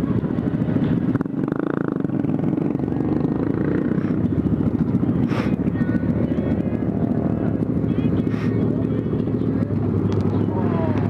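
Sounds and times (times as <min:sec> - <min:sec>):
motorbike engine open exhaust: 0:00.0 - 0:11.0.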